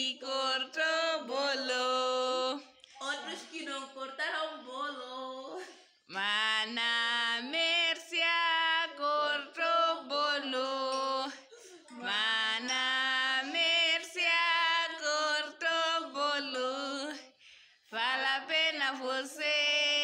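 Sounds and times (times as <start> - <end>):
woman singing: 0.0 - 20.0.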